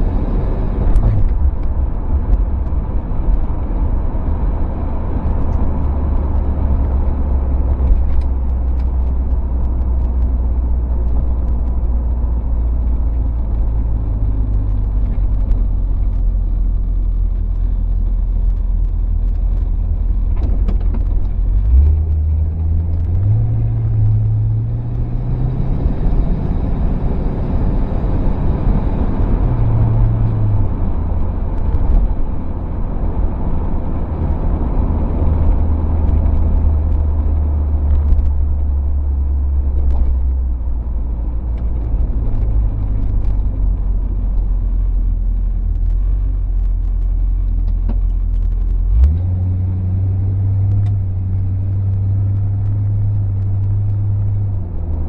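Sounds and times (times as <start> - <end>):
car engine and exhaust accelerating: 0.0 - 55.0
wind noise: 0.0 - 55.0.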